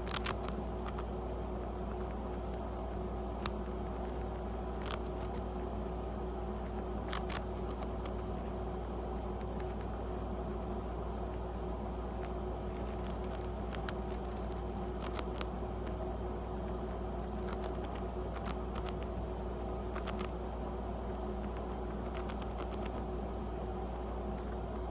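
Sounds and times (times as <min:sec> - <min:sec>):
rat nibbling a cracker: 0:00.0 - 0:24.9
steady low hum: 0:00.0 - 0:24.9.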